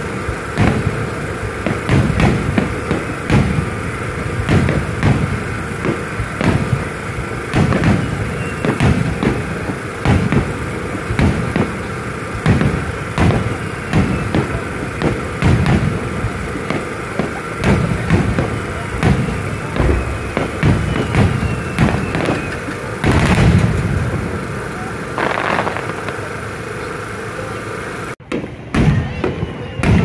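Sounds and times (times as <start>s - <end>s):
steady hum: 0.0s - 28.7s
fireworks booming and banging: 0.0s - 30.0s.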